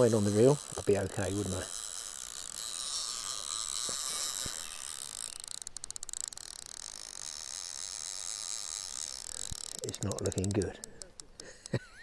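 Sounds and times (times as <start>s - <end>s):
fishing reel drag clicking: 0.0s - 12.0s.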